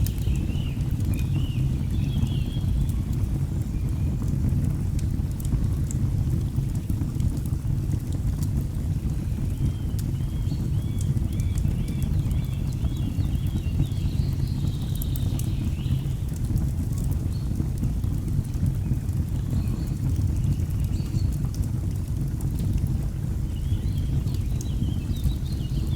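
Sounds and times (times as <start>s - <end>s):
burning logs crackling: 0.0s - 25.9s.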